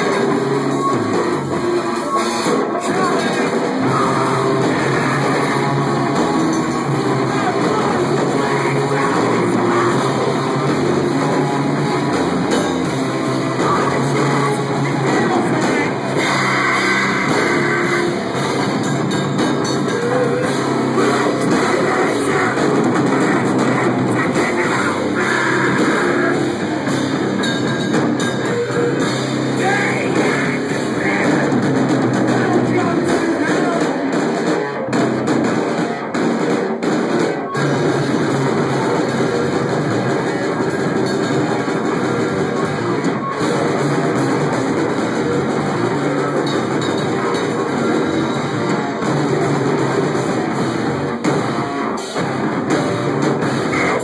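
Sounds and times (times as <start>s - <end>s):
drum kit: 0.0s - 54.0s
electric guitars: 0.0s - 54.0s
live heavy metal band playing: 0.0s - 54.0s.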